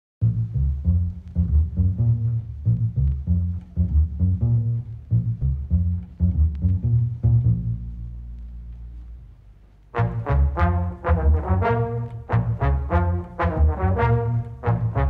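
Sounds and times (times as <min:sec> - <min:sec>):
plucked bass line music: 0:00.2 - 0:15.0.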